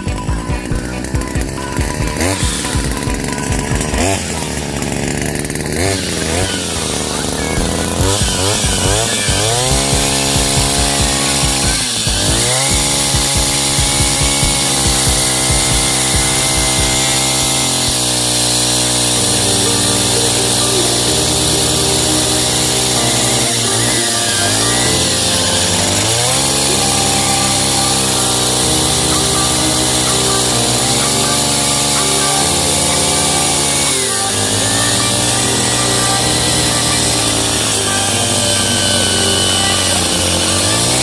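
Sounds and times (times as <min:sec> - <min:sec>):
brush cutter engine revving: 0:00.0 - 0:41.0.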